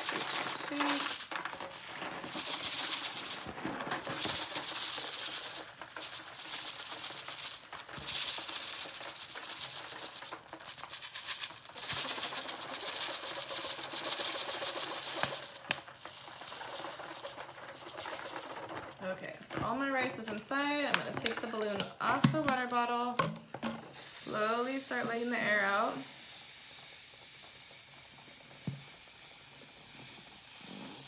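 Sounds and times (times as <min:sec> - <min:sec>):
rice rattling in a plastic bottle: 0:00.0 - 0:31.0.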